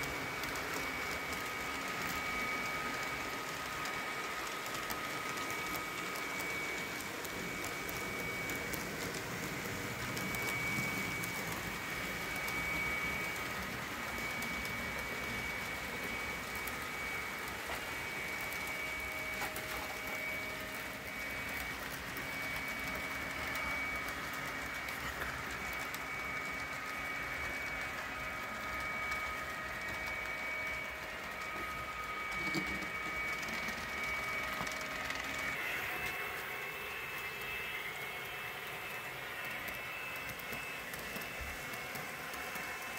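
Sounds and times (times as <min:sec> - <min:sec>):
electric motor whine: 0:00.0 - 0:42.9.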